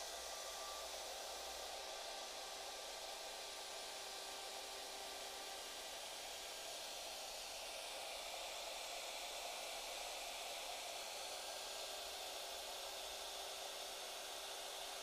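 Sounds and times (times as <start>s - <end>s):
router and dust extractor running: 0.0s - 15.0s.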